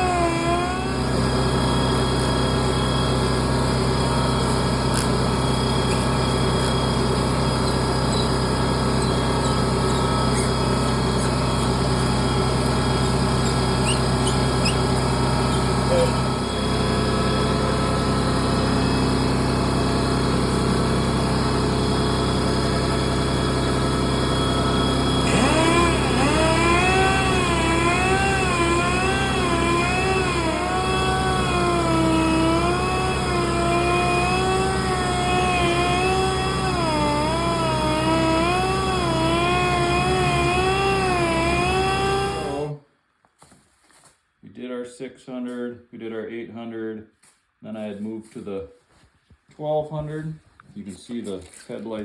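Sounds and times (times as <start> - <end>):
sander humming: 0.0 - 42.8.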